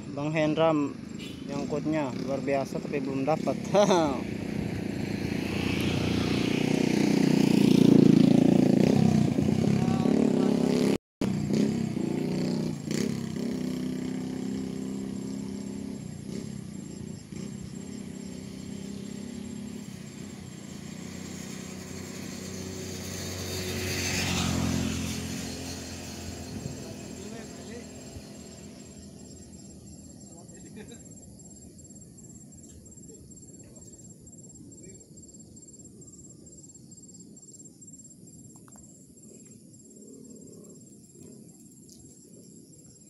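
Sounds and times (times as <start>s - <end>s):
vehicle engines passing by: 0.0s - 35.8s.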